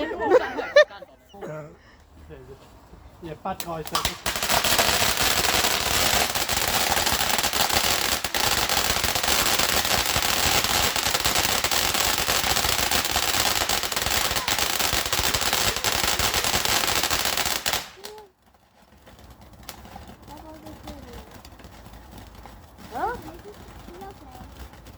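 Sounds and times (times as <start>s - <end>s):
firework crackling: 3.5s - 24.9s.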